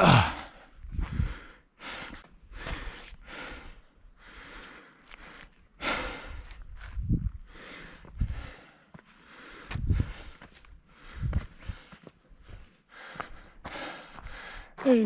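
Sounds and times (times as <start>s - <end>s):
person breathing hard: 0.0s - 14.8s.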